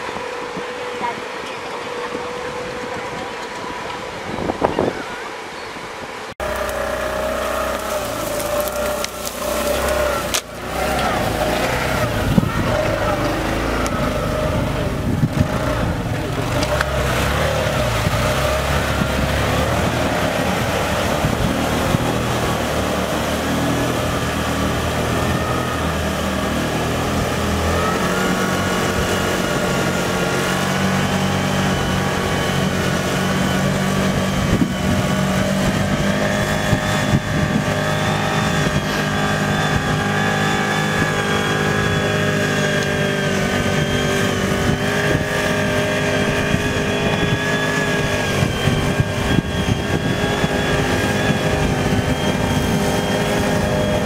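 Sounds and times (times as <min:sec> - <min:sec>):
water churning and splashing: 0:00.0 - 0:54.0
vehicle engine running: 0:06.4 - 0:54.0.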